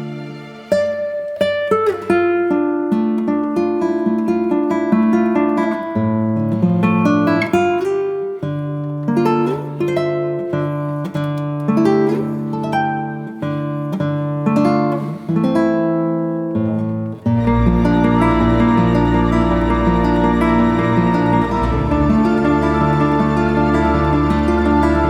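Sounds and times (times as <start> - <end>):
acoustic guitar plucking and strumming: 0.0 - 25.0.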